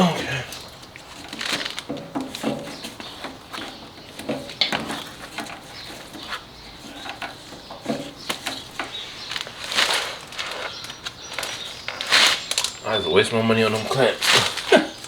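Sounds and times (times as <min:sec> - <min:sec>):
short scraping rasps: 0:00.0 - 0:15.0
small clicks and knocks: 0:00.5 - 0:12.8.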